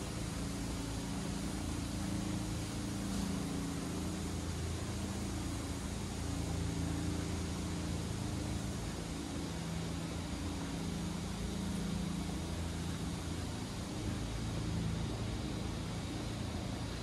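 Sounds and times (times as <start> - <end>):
building machinery hum: 0.0 - 17.0
even hiss: 0.0 - 17.0
traffic engines hum: 0.0 - 17.0.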